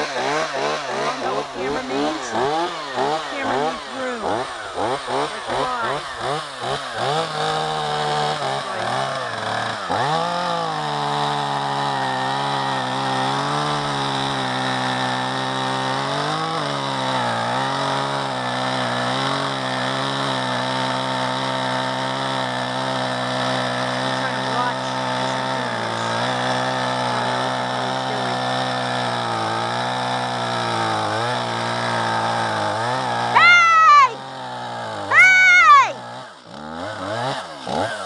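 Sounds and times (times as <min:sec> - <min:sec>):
chainsaw engine revving: 0:00.0 - 0:38.0.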